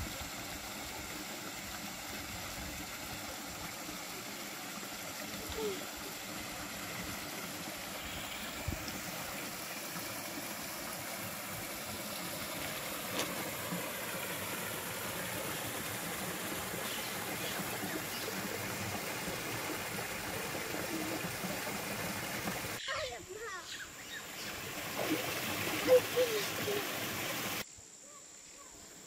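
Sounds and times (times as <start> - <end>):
stream rushing between rocks: 0.0 - 22.8, 24.2 - 27.6.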